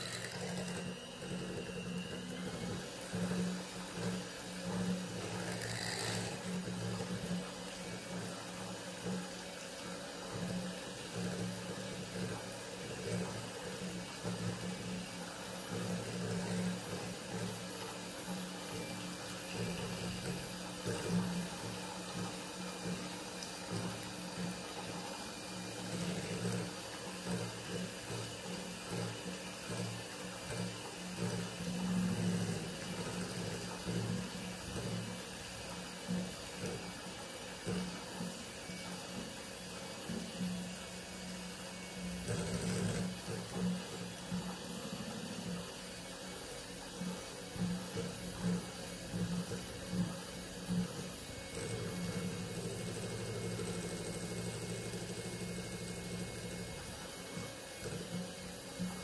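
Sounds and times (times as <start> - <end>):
electric hand mixer whisking: 0.0 - 59.0.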